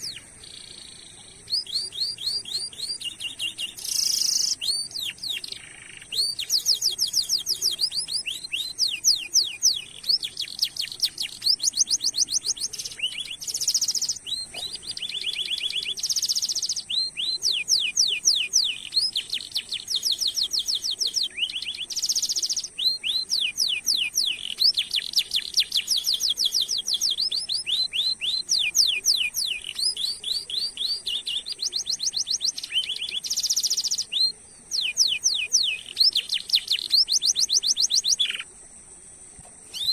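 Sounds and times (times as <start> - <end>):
canary singing trills: 0.0 - 38.6, 39.6 - 39.9.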